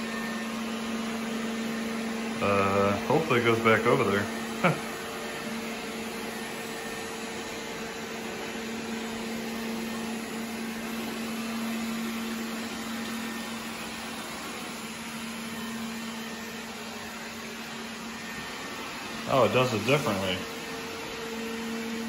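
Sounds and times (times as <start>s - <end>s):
robot vacuum whirring: 0.0s - 22.0s.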